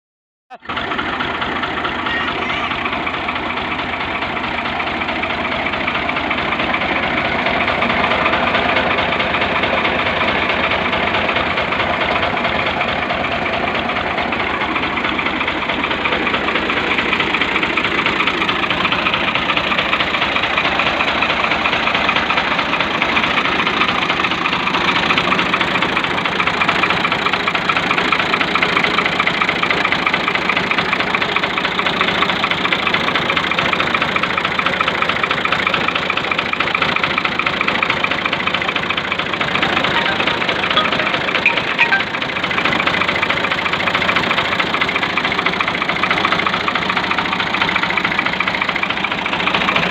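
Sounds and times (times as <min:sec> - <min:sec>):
tractor diesel engine idling: 0:00.5 - 0:49.9.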